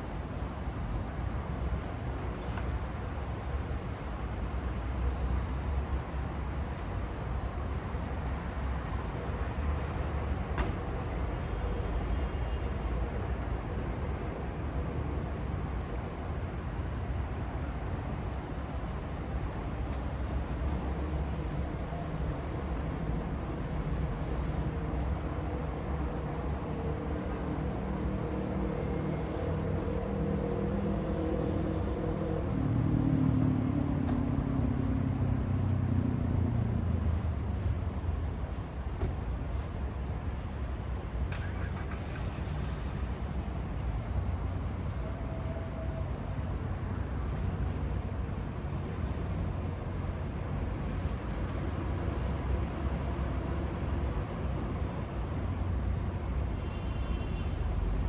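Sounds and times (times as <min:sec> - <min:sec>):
city traffic rumble: 0:00.0 - 0:58.0.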